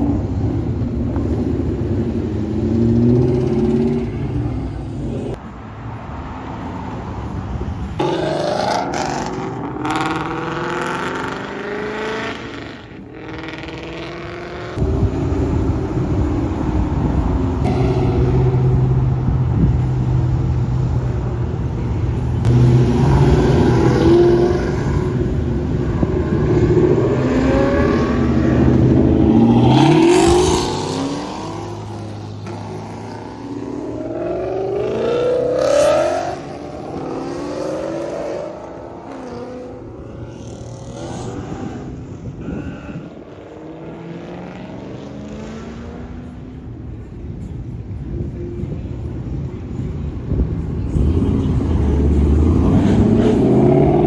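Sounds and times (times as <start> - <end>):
cars revving and accelerating: 0.0 - 54.0.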